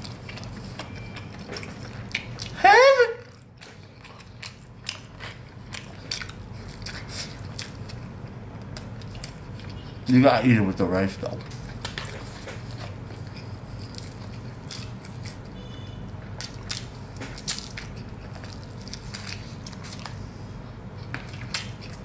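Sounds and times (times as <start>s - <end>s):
low steady hum: 0.0s - 22.0s
crispy fried chicken crackling: 3.4s - 22.0s.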